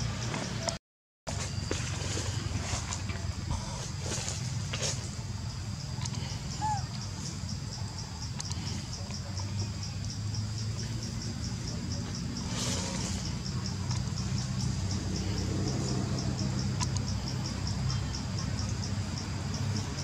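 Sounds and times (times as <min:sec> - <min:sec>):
insect chirping: 0:01.3 - 0:20.0.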